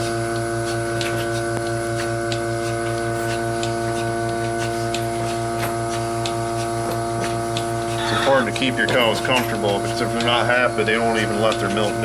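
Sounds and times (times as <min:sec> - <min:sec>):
milking machine humming: 0:00.0 - 0:12.0
pulsator clicking: 0:00.0 - 0:12.0.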